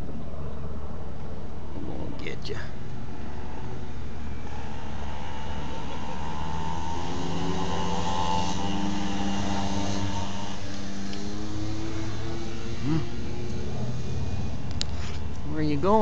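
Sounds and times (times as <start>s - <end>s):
motor droning: 2.9s - 16.0s.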